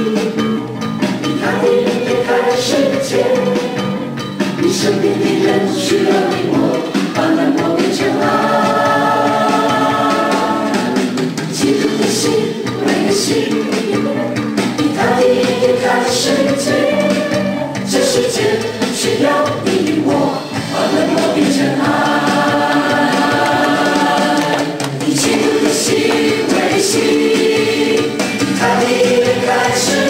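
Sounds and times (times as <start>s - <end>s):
group singing a worship song: 0.0s - 0.4s, 1.3s - 30.0s.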